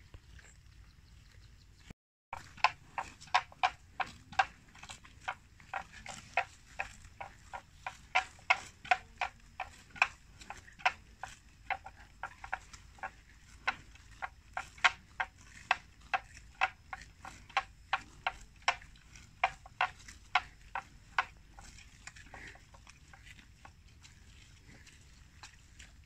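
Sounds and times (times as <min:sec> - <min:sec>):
grass tearing as buffalo grazes: 0:00.0 - 0:01.5, 0:02.4 - 0:26.0.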